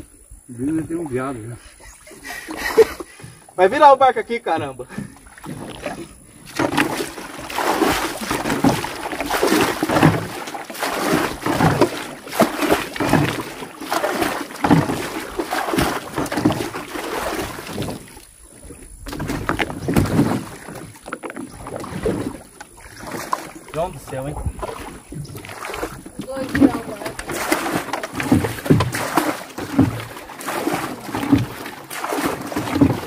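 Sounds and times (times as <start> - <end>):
water splashing around boat: 0.0 - 33.0.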